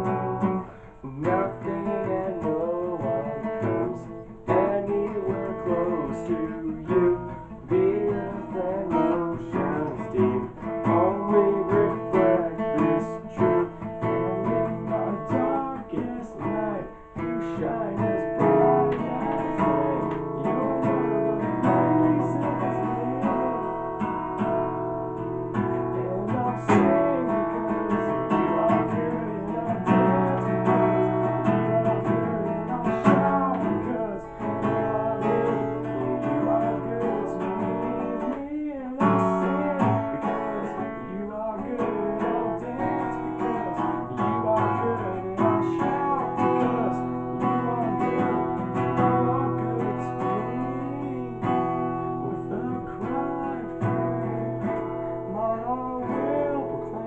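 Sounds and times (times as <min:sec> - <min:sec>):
acoustic guitar strumming chords: 0:00.0 - 0:57.0
man singing: 0:00.0 - 0:57.0.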